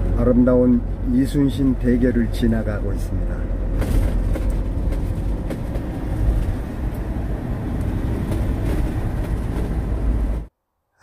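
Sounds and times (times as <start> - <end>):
road and engine rumble in vehicle: 0.0 - 10.5.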